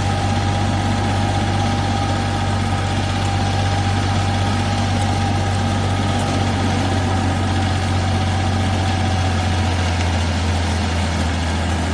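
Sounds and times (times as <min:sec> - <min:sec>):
grass chopping machine running: 0:00.0 - 0:11.9.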